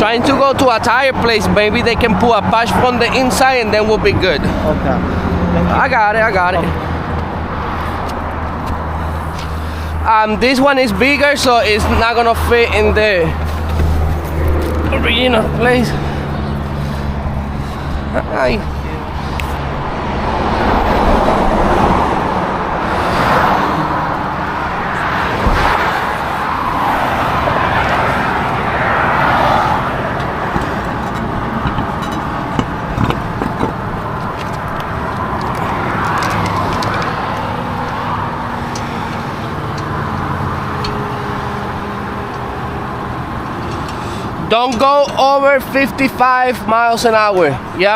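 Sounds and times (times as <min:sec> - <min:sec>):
road traffic passing: 0:00.0 - 0:47.9.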